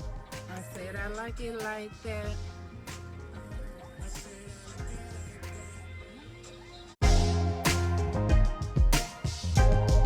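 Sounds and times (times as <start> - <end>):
music with a steady beat: 0.0 - 10.0.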